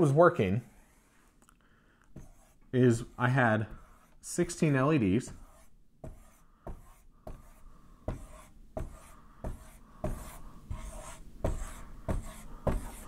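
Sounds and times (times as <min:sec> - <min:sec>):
marker drawing on whiteboard: 0:00.0 - 0:01.4, 0:02.1 - 0:13.0.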